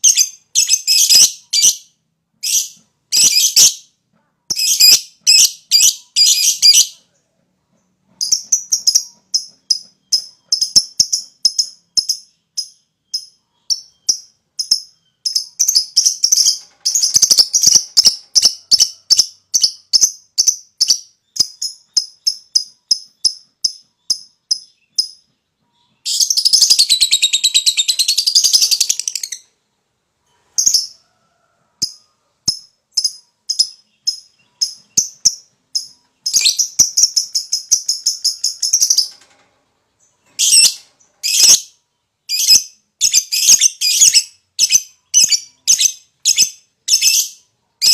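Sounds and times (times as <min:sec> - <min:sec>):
lovebird high chirps: 0:00.0 - 0:03.9, 0:04.5 - 0:07.0, 0:08.2 - 0:29.6, 0:31.8 - 0:39.2, 0:40.3 - 0:47.9.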